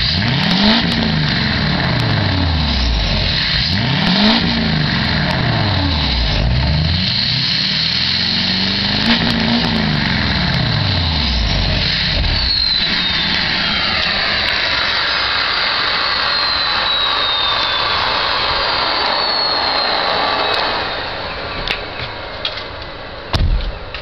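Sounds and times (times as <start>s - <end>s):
diesel engine revving: 0.0s - 22.0s
turbocharger whistle: 0.0s - 22.0s
exhaust rush: 0.0s - 23.9s.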